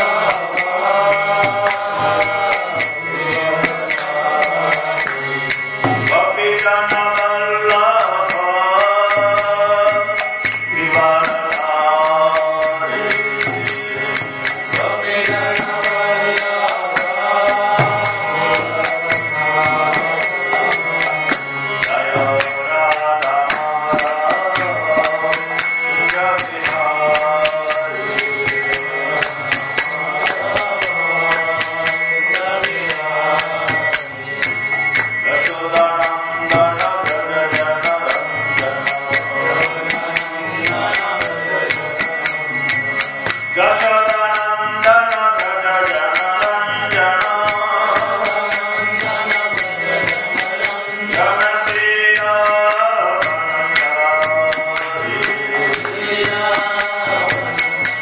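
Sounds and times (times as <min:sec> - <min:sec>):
devotional chant singing: 0:00.0 - 0:58.0
small hand cymbals beat: 0:00.0 - 0:58.0
steady high tone: 0:00.0 - 0:58.0.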